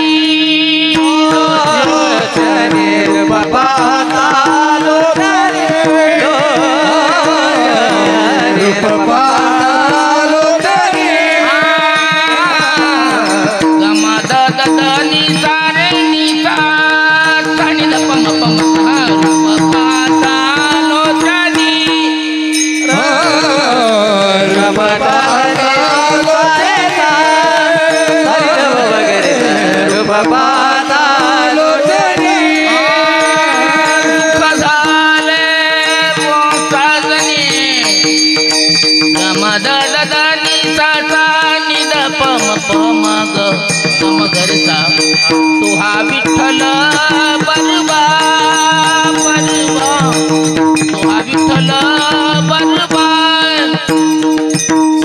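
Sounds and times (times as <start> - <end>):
man singing melismatic phrases: 0.0 - 38.0, 39.2 - 50.3.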